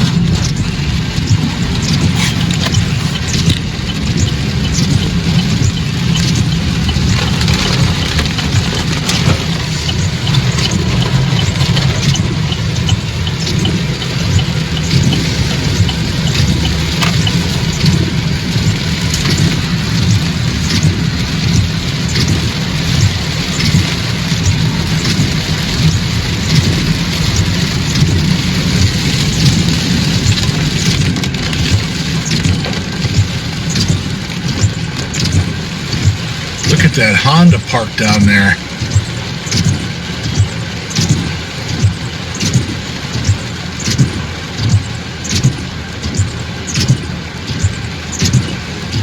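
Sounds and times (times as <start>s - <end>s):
rain taps: 0.0s - 49.0s
road and engine rumble: 0.0s - 49.0s.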